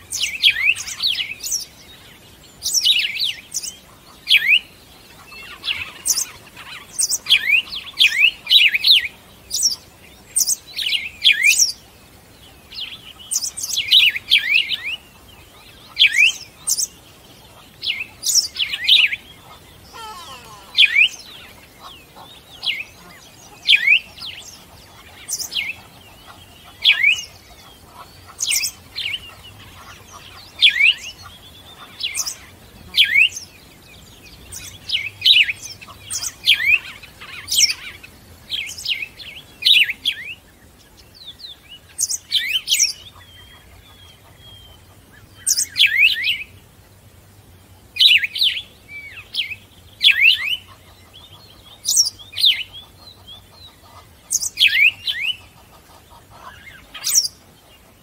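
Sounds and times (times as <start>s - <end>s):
bird chirping: 0.0s - 46.6s, 47.9s - 58.0s.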